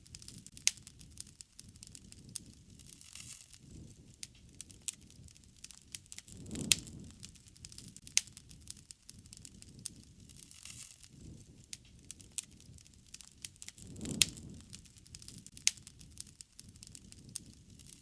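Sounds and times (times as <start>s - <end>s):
campfire crackling and popping: 0.0s - 18.0s
low rush of flame: 0.0s - 18.0s.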